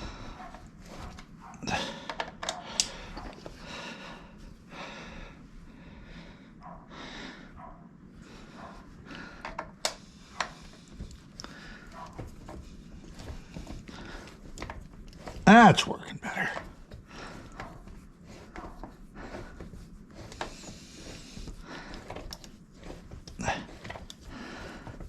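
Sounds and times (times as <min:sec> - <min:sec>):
person breathing: 0:00.0 - 0:14.6, 0:16.9 - 0:25.0.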